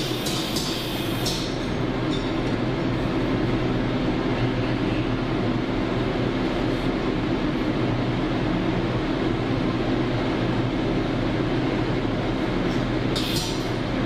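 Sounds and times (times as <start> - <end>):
machine pumps and fans humming: 0.0 - 14.0.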